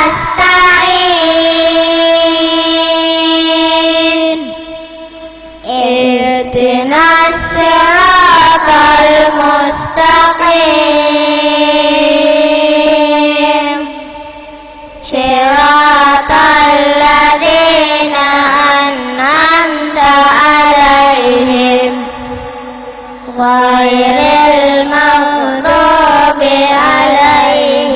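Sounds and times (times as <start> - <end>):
children reciting in chorus: 0.0 - 27.9.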